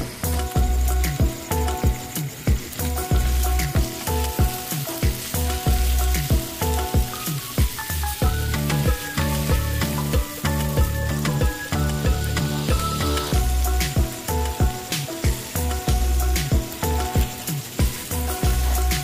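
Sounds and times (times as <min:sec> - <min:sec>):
background music with a beat: 0:00.0 - 0:19.0
chicken sizzling in a pan: 0:00.0 - 0:19.0.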